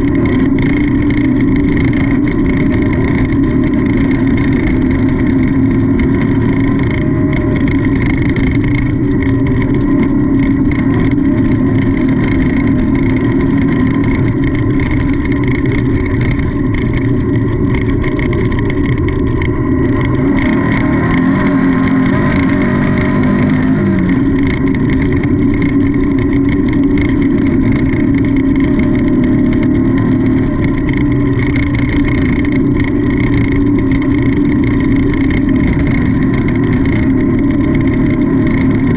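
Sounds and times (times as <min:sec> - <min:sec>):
car rattling over rough ground: 0:00.0 - 0:38.9
race car engine at high revs: 0:00.0 - 0:38.9.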